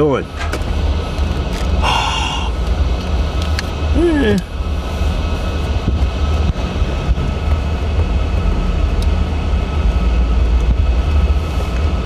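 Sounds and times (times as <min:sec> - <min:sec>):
car cabin engine rumble: 0:00.1 - 0:12.0.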